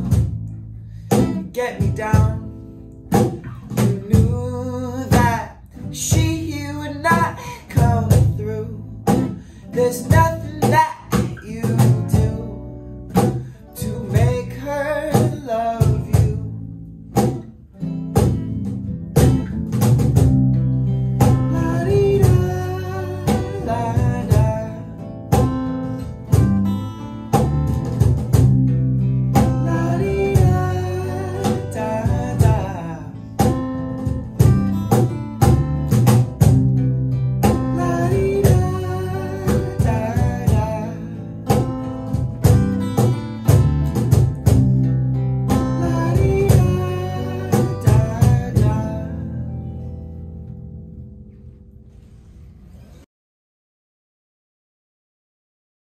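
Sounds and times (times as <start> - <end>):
cajon beat: 0.0 - 49.4
electric bass line: 0.0 - 52.2
strummed acoustic guitars: 0.0 - 53.0.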